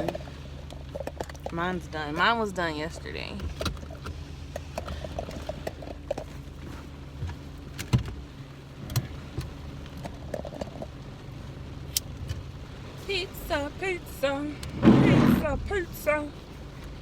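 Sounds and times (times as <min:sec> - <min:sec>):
car driving rumble inside cabin: 0:00.0 - 0:17.0.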